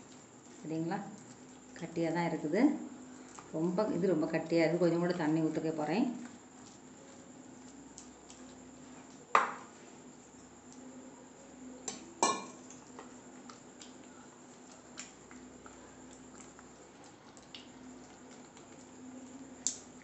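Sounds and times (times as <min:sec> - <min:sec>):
batter mixed by hand: 0:00.0 - 0:20.0.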